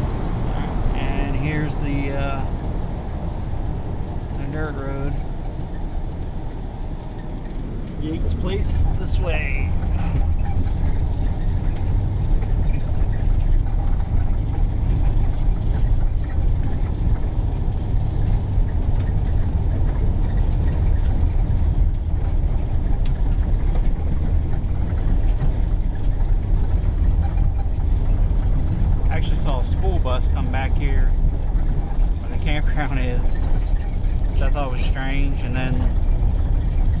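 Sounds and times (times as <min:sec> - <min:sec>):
faint rattles: 0:00.0 - 0:37.0
vehicle rumbling on dirt road: 0:00.0 - 0:37.0.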